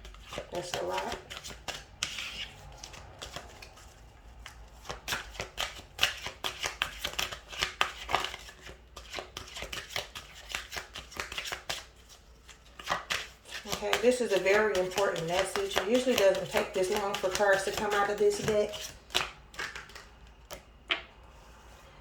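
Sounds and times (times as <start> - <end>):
cards being shuffled by hand: 0.0 - 21.1.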